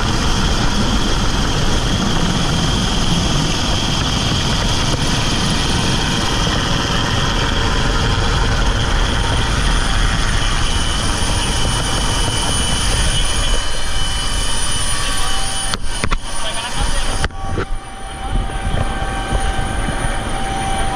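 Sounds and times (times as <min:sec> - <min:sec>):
helicopter engine and rotor: 0:00.0 - 0:20.9.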